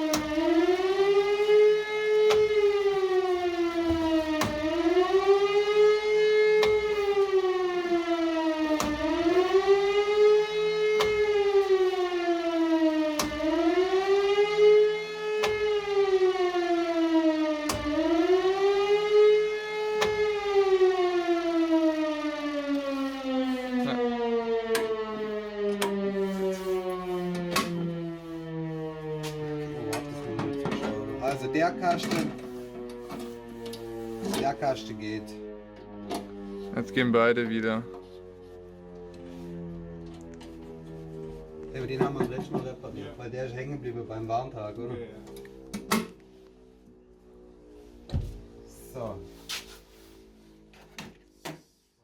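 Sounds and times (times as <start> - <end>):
siren click: 0.0 - 43.9, 44.8 - 49.9
electric motor siren wailing: 0.0 - 52.0.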